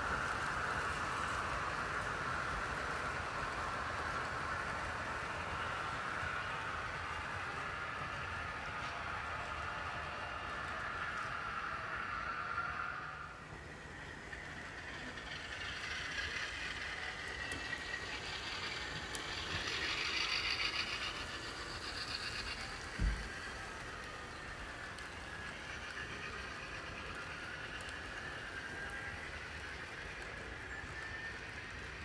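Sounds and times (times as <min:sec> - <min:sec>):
model train motors whirring: 0:00.0 - 0:32.0.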